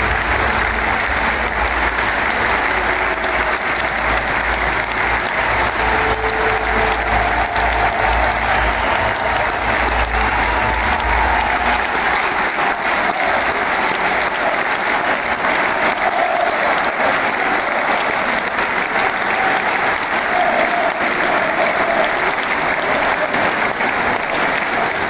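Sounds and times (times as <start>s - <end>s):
crowd applauding: 0.0s - 25.0s.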